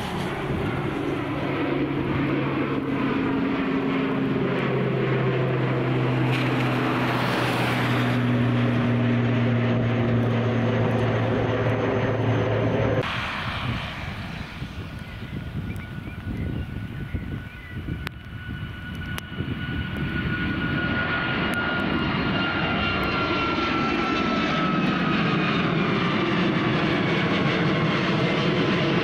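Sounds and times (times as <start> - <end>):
wind noise: 0.0 - 28.9
turboprop plane droning: 0.0 - 29.0.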